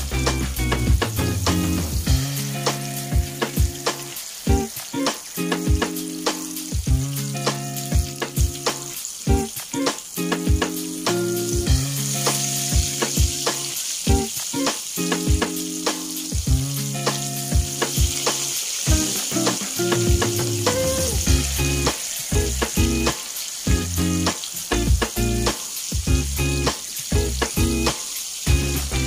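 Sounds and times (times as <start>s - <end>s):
fish deep-frying in oil: 0.0s - 29.0s.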